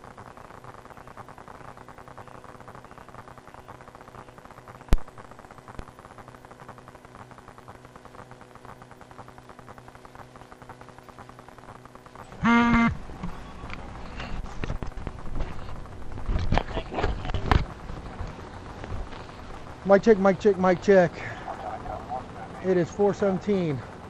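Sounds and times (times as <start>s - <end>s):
electrical hum and hiss: 0.0s - 24.0s.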